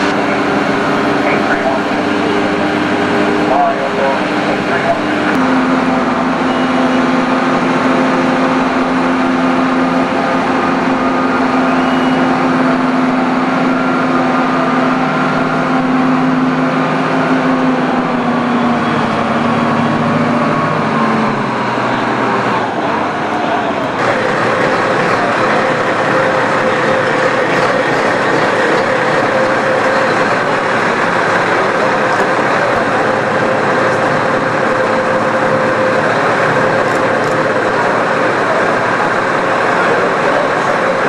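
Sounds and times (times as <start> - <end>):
lift truck engine humming: 0.0 - 41.0
steady background noise: 0.0 - 41.0.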